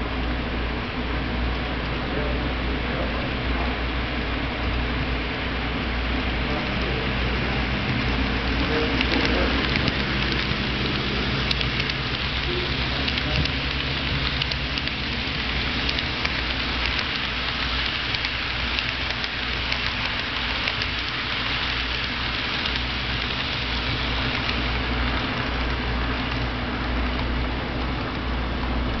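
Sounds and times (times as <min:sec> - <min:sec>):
low hum and hiss: 0:00.0 - 0:29.0
model train wheels clicking: 0:04.2 - 0:29.0.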